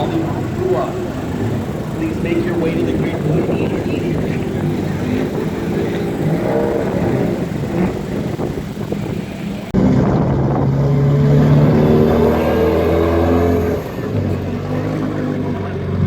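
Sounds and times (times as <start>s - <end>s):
car engines running: 0.0s - 16.0s
close engine steady note: 0.0s - 16.0s.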